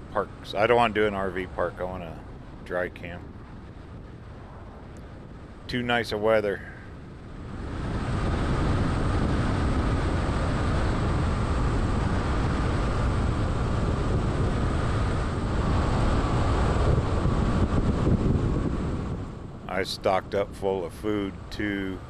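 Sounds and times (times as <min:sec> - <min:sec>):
road noise from driving vehicle: 0:00.0 - 0:22.0
wind rumbling on microphone: 0:00.0 - 0:22.0.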